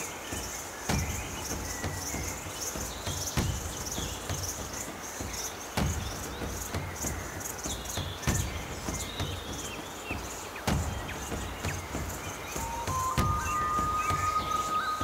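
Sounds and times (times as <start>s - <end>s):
insects chirping: 0.0s - 15.0s
low thumps: 0.3s - 15.0s.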